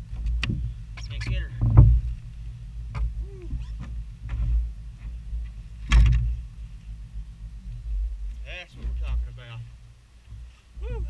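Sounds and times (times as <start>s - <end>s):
knocks and rattles in a boat: 0.0s - 11.0s
steady low rumble: 0.0s - 11.0s.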